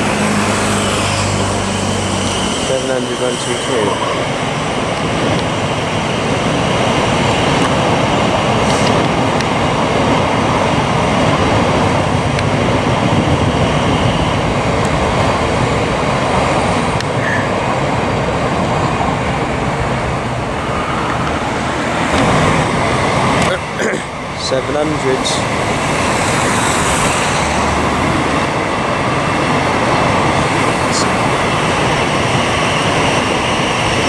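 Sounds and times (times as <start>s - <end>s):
train wheels rushing on rail: 0.0s - 34.0s.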